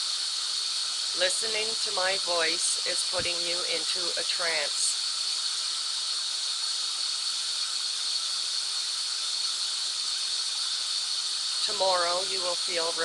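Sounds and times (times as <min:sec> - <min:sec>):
steady white noise: 0:00.0 - 0:13.0.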